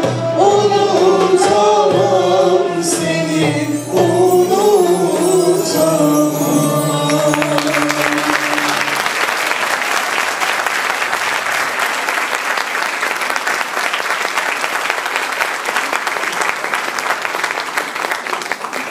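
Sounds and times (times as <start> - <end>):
audience applauding: 3.4 - 18.9.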